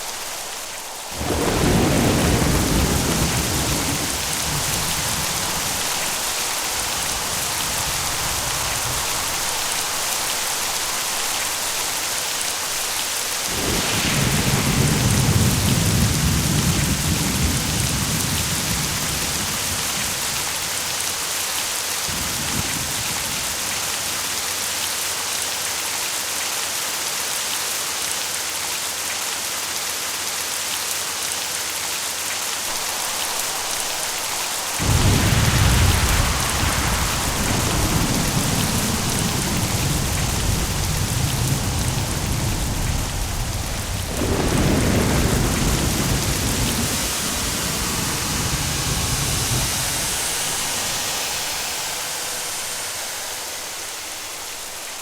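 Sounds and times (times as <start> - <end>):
thunder clap and rumble: 0.0 - 21.2, 22.1 - 24.2, 32.7 - 53.8
heavy rain: 0.0 - 55.0.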